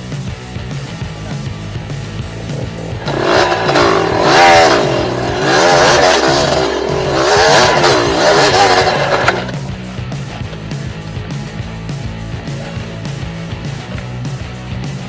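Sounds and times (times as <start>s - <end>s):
faint rock music: 0.0s - 15.0s
dirt bike engine revving: 0.8s - 13.9s.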